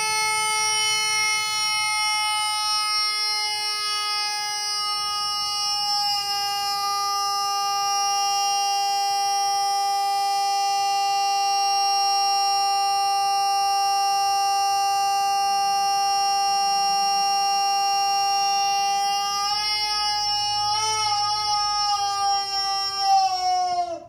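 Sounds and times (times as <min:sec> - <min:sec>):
steady buzzer-like tone: 0:00.0 - 0:21.6.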